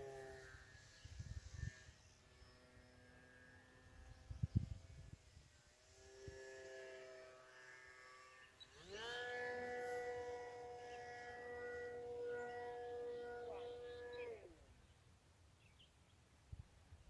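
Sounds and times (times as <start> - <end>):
model plane motor whining: 0.0 - 14.8.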